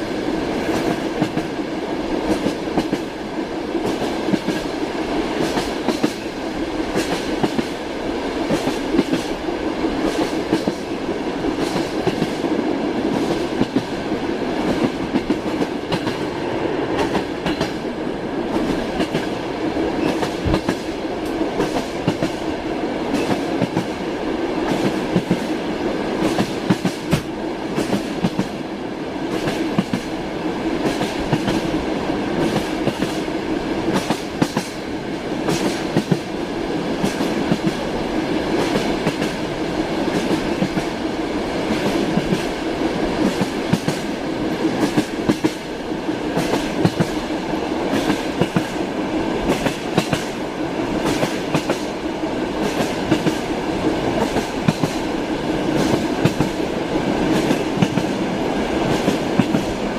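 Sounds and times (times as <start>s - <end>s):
train wheels clattering on rails: 0.0s - 17.9s, 18.5s - 59.9s
train rumble: 0.0s - 59.9s.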